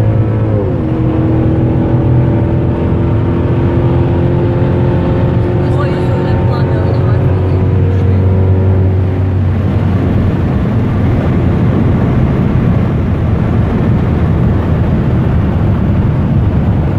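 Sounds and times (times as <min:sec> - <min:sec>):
road and wind rumble inside car: 0:00.0 - 0:16.9.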